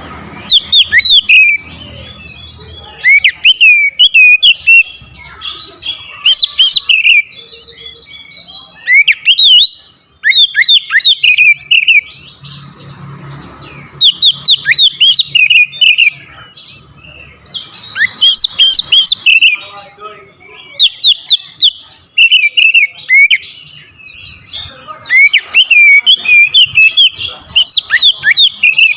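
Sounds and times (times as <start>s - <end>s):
bird singing whistled notes: 0.4s - 28.9s.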